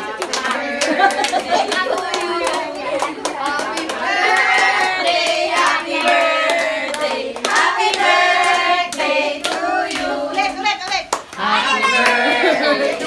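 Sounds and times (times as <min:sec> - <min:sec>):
group of people singing: 0:00.0 - 0:10.8, 0:11.4 - 0:13.0
people clapping along: 0:00.0 - 0:13.0.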